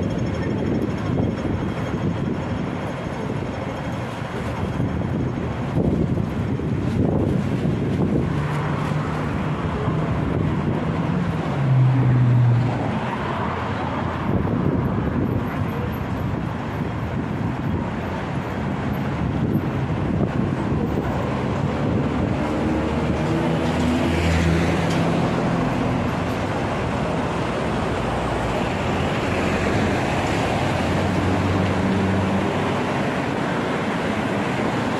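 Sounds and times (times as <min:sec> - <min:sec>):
road traffic: 0:00.0 - 0:34.9
wind on microphone: 0:00.0 - 0:34.9.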